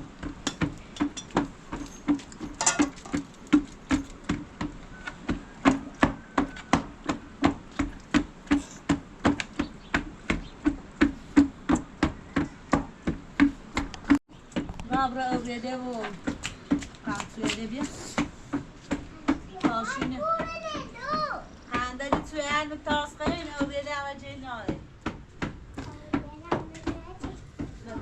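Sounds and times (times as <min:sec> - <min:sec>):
steady knocks with low ring: 0:00.2 - 0:28.0.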